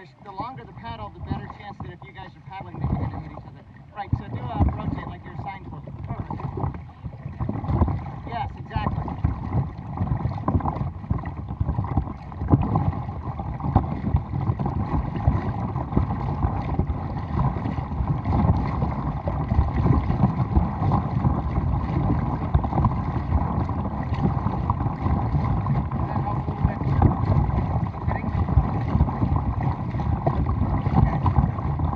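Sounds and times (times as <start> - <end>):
paddle splashing into water: 0.0 - 31.9
water rushing along hull: 0.0 - 31.9
wind buffeting microphone: 0.0 - 31.9.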